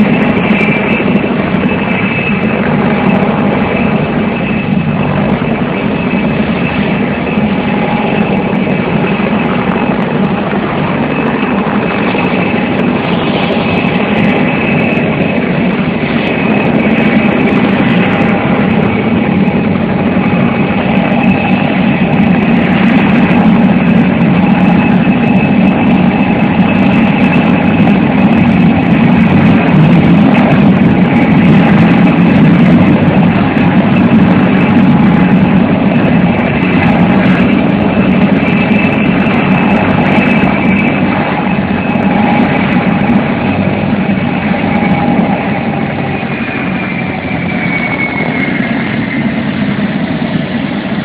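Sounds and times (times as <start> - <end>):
helicopter turbine whine: 0.0 - 51.0
low engine drone: 0.0 - 51.0.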